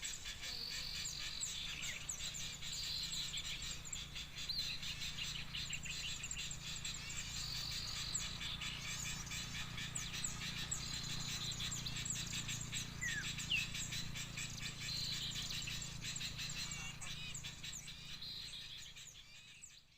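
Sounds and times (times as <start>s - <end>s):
small birds chirping: 0.0s - 19.9s
steady low hum: 0.1s - 19.0s.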